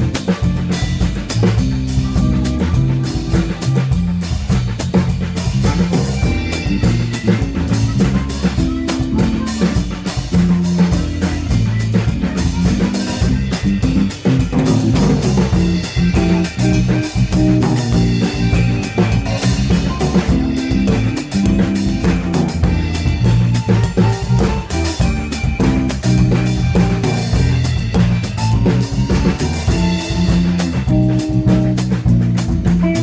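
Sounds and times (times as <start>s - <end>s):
drum kit with cymbals: 0.0s - 33.0s
electric bass line: 0.0s - 33.0s
guitar: 0.0s - 33.0s.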